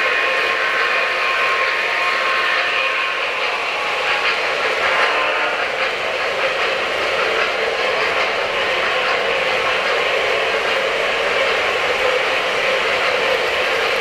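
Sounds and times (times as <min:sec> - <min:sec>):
model train wheels on track: 0:00.0 - 0:14.0.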